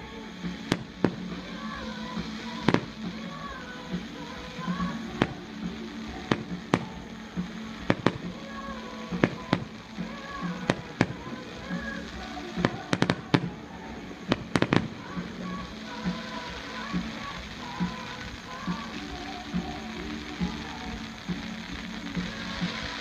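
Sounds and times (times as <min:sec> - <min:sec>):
background music: 0:00.0 - 0:23.0
fireworks banging: 0:00.0 - 0:23.0.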